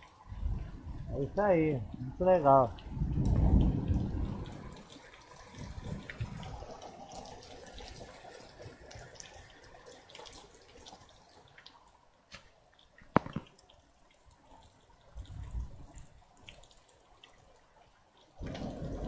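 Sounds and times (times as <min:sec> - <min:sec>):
rain falling and dripping: 0:00.0 - 0:19.0.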